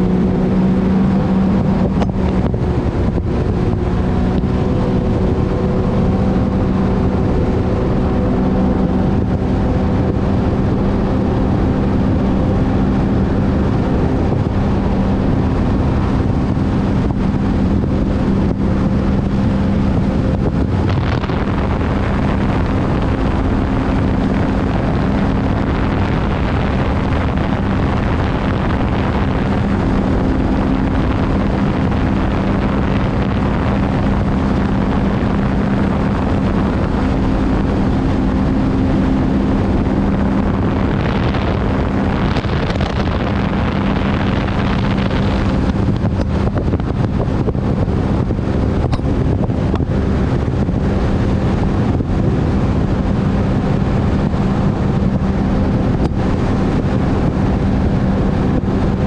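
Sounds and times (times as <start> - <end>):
watercraft engine drone: 0.0 - 59.0
wind and water rushing: 0.0 - 59.0.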